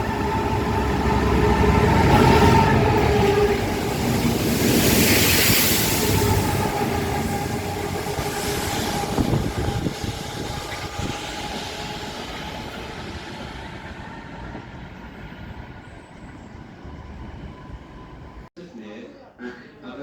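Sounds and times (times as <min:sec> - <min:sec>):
train rumble and whine: 0:00.0 - 0:18.5.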